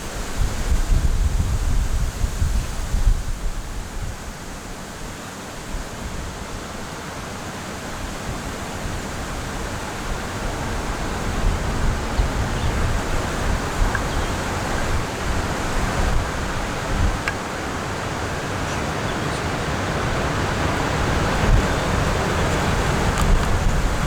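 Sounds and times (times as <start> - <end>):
wind buffeting microphone: 0.0 - 4.7, 8.2 - 24.0.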